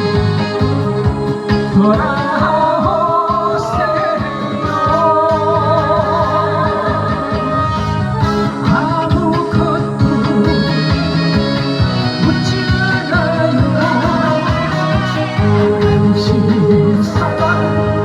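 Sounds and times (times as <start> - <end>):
backing track with steady beat: 0.0 - 18.0
woman singing pop song: 0.0 - 18.0.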